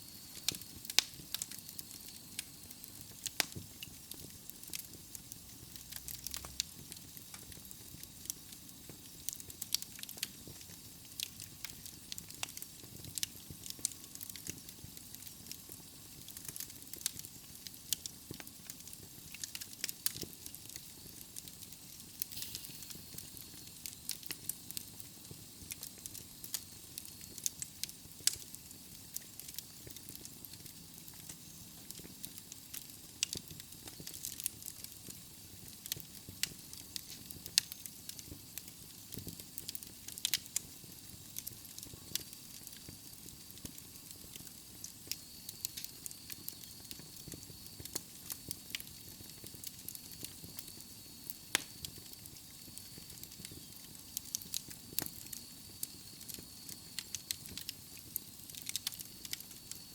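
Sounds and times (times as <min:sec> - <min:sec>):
fire hissing softly: 0:00.0 - 0:59.9
logs crackling and popping: 0:00.1 - 0:59.9.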